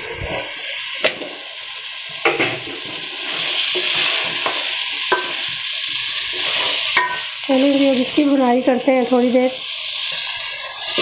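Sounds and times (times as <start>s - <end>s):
food sizzling in pot: 0.0s - 11.0s.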